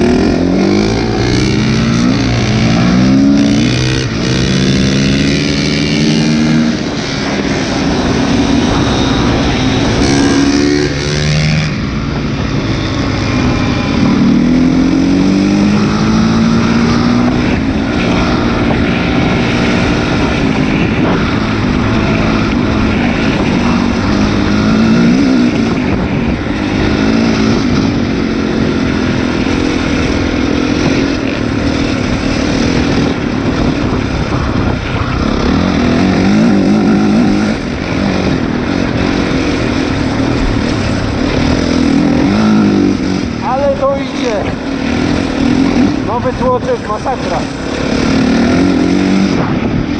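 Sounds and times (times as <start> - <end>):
motorbike engine revving: 0.0 - 49.9
wind and road rush: 0.0 - 49.9.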